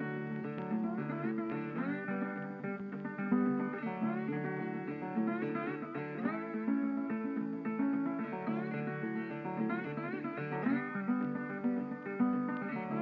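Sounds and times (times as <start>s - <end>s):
plucked string instrument melody: 0.0s - 13.0s.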